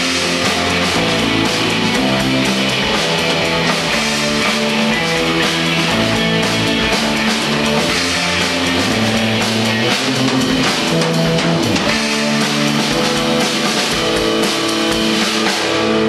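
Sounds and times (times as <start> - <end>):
drum kit with cymbals: 0.0 - 16.0
electric guitars: 0.0 - 16.0.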